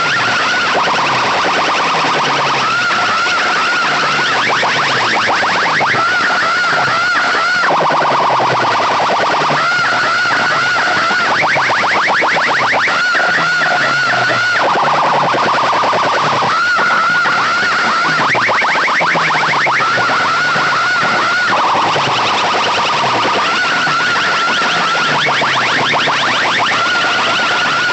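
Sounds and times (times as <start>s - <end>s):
rapid rising chirps: 0.0s - 27.9s
warbling electronic siren: 0.0s - 27.9s.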